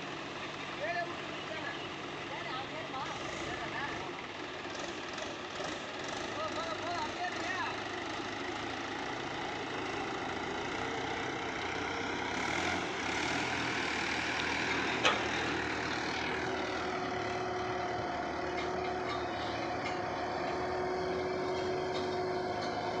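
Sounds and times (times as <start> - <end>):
diesel tractor engine under load: 0.0 - 23.0.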